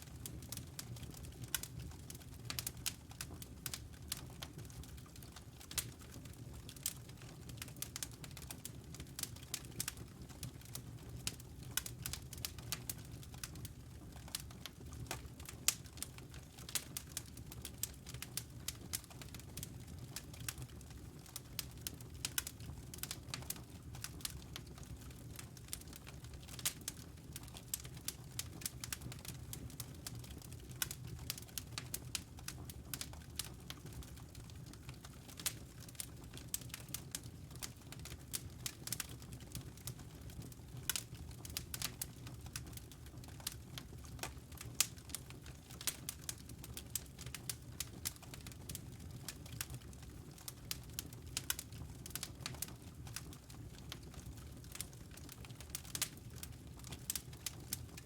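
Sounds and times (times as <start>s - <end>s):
logs crackling in fireplace: 0.0s - 58.0s
low rumble of flames: 0.0s - 58.0s.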